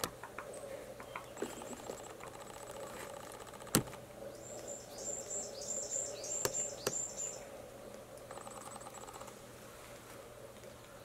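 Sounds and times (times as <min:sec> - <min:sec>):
small bird calling: 0:00.0 - 0:09.3.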